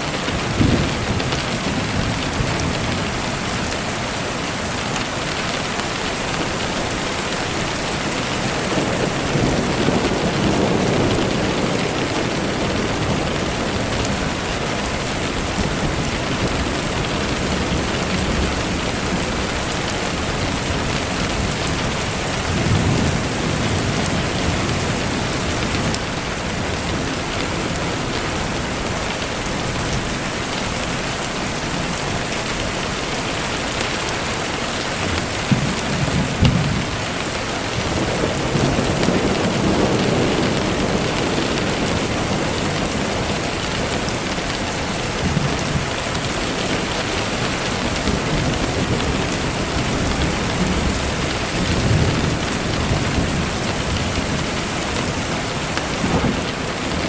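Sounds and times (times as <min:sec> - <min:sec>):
thunder rumbling: 0:00.0 - 0:04.9, 0:05.6 - 0:30.0, 0:32.4 - 0:57.0
rain falling: 0:00.0 - 0:57.0.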